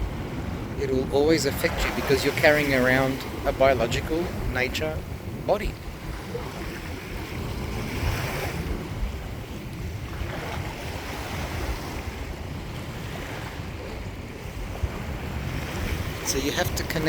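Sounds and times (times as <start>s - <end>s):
moving water: 0.0s - 17.0s
wind buffeting microphone: 0.0s - 17.0s.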